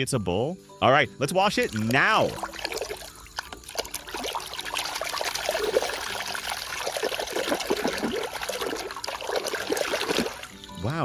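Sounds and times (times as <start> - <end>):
water pouring and trickling: 1.3 - 11.0.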